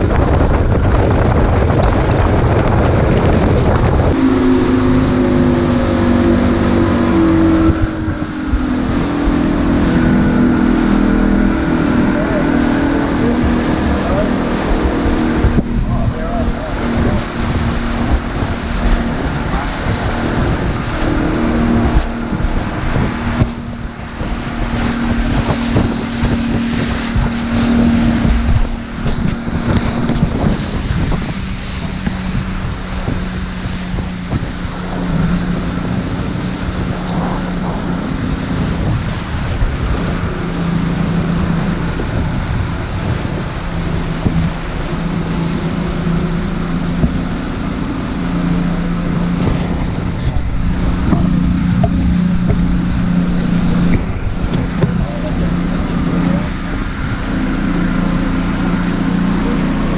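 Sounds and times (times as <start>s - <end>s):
boat engines droning: 0.0s - 59.9s
water rushing past hull: 0.0s - 59.9s
wind buffeting microphone: 0.0s - 59.9s.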